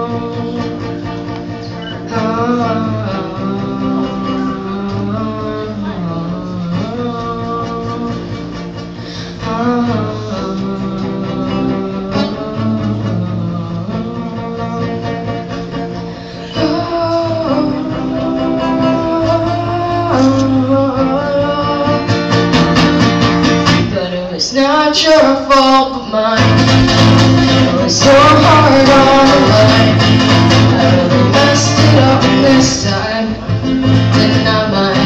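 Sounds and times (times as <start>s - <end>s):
man singing: 0.0s - 15.7s, 16.4s - 35.0s
acoustic guitar strumming: 0.0s - 35.0s.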